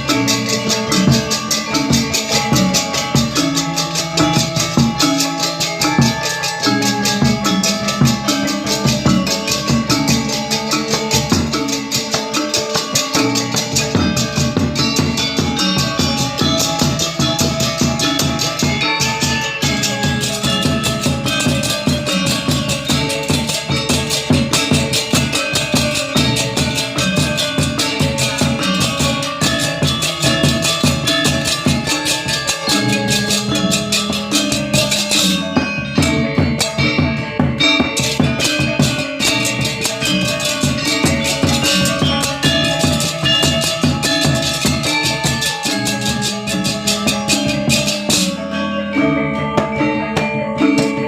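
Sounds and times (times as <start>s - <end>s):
gamelan ensemble playing: 0.0s - 51.0s.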